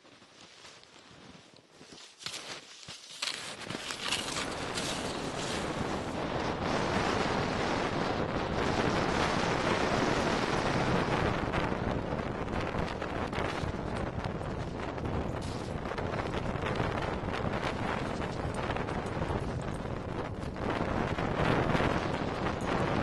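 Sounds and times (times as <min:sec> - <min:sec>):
wind buffeting microphone: 0:03.6 - 0:23.0.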